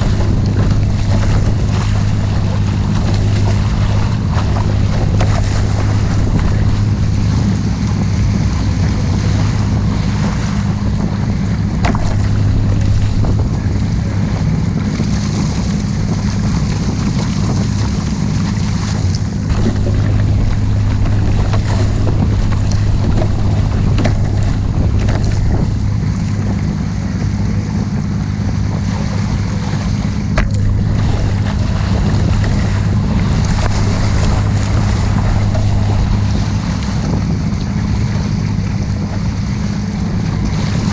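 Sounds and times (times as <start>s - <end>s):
motorboat engine humming: 0.0s - 40.9s
water rushing: 0.0s - 40.9s
wind buffeting microphone: 0.0s - 40.9s.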